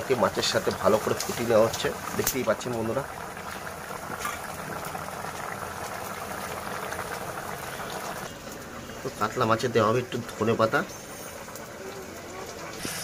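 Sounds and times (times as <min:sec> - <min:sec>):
curry bubbling in pan: 0:00.0 - 0:13.0.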